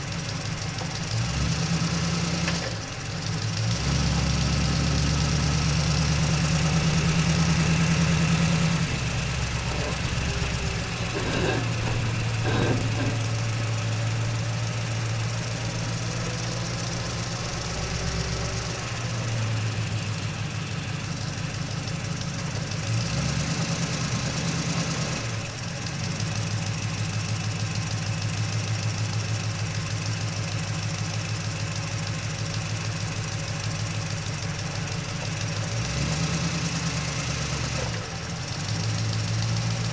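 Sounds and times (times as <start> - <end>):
truck engine from inside cab: 0.0 - 39.9.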